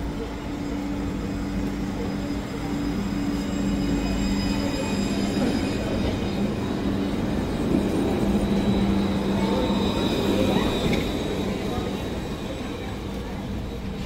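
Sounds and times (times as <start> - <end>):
tram electric traction hum: 0.0 - 14.0
high wheel squeal: 0.5 - 13.0.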